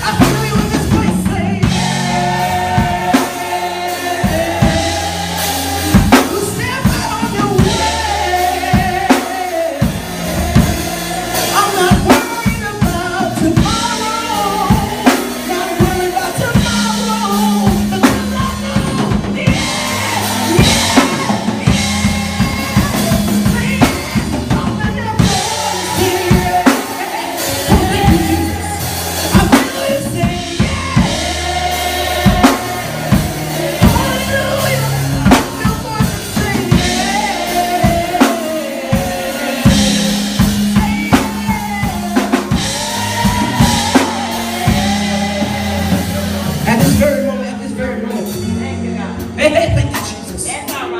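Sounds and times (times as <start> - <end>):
bass line: 0.0 - 50.9
congregation singing: 0.0 - 50.9
drum kit: 0.0 - 50.9.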